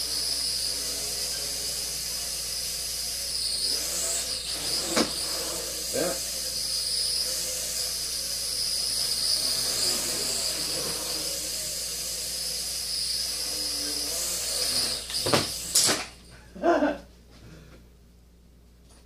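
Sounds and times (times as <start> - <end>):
quadcopter rotors whining: 0.0 - 16.9.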